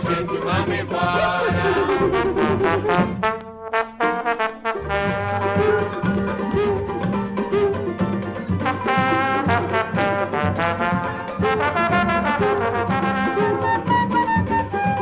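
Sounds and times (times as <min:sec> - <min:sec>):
samba band playing: 0:00.0 - 0:15.0.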